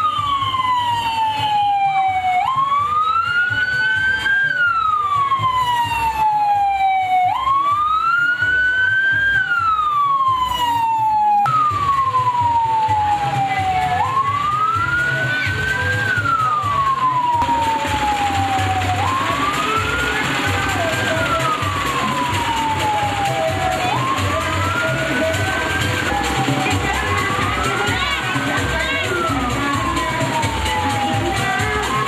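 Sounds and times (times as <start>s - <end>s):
police siren wailing: 0.0s - 32.0s.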